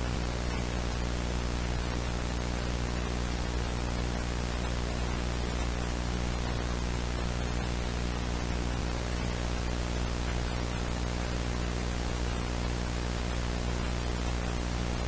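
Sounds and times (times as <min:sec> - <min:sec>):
low electrical hum: 0:00.0 - 0:15.0
static hiss: 0:00.0 - 0:15.0.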